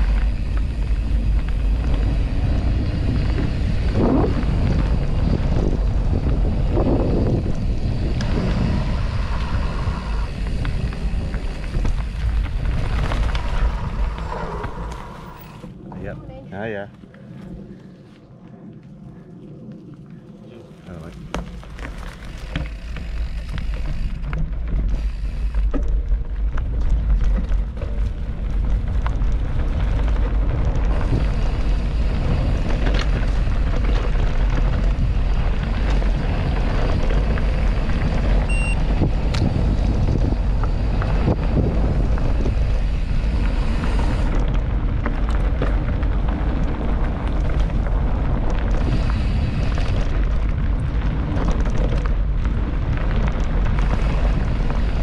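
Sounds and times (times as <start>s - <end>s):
bike rattling on rough trail: 0.0s - 55.0s
wind buffeting microphone: 0.0s - 55.0s.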